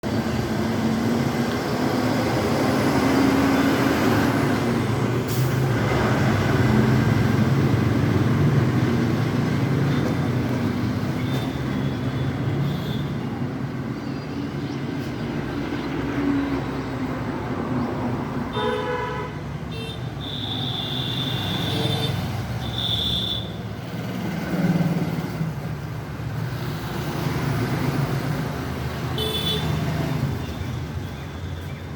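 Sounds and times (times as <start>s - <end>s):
road traffic noise: 0.0s - 31.9s.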